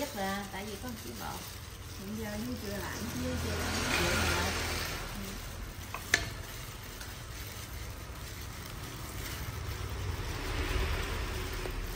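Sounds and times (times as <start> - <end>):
plastic gloves crinkling: 0.0 - 11.9.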